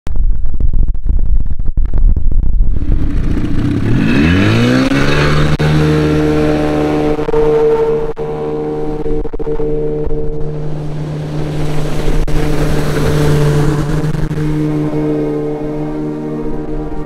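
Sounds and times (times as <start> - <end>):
low rumble: 0.0 - 17.0
outboard engine revving: 2.7 - 17.0.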